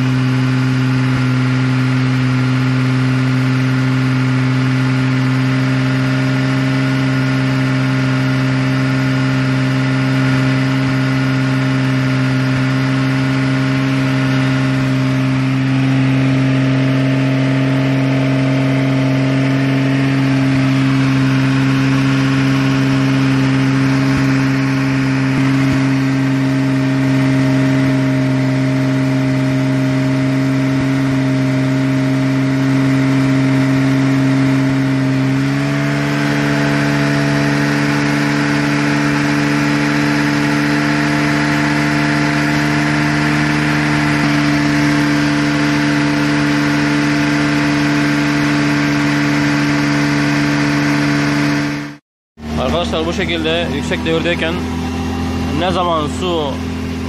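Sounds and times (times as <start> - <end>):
car engine at raised revs: 0.0 - 57.0.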